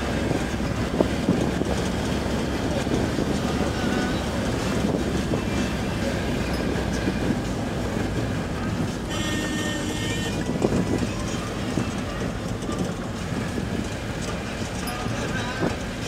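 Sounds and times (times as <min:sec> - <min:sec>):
vehicle rumble and road noise: 0:00.0 - 0:16.0.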